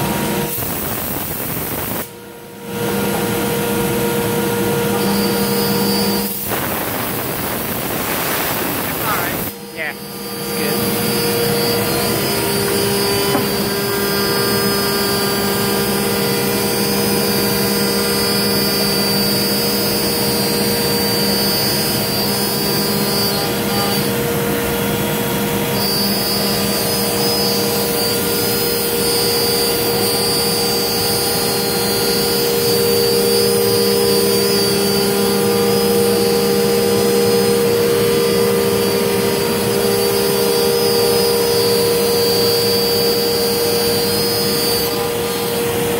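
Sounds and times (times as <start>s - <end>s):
router spindle whine: 0.0s - 45.9s.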